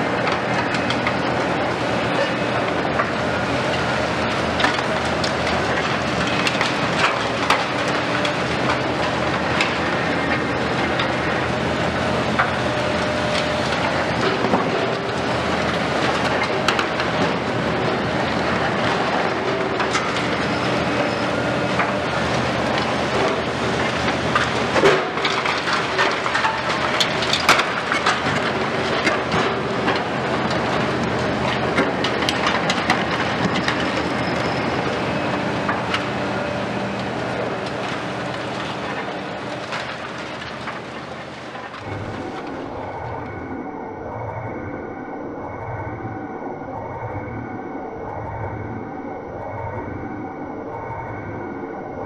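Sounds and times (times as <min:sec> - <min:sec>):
diesel engine hum: 0:00.0 - 0:52.0
concrete cracking and debris falling: 0:00.3 - 0:43.3.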